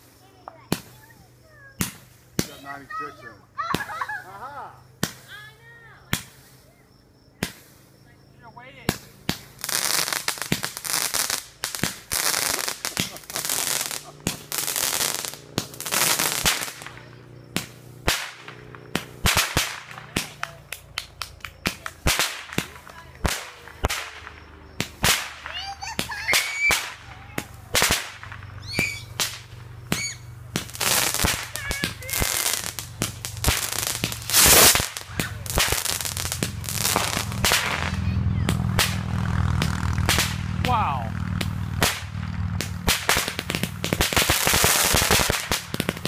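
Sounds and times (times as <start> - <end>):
crackling pops: 0.0 - 4.1, 5.0 - 5.4, 6.0 - 6.6, 7.4 - 7.9, 8.8 - 46.0
hissing firework launches: 0.0 - 8.0, 8.9 - 46.0
fireworks bangs: 0.0 - 46.0.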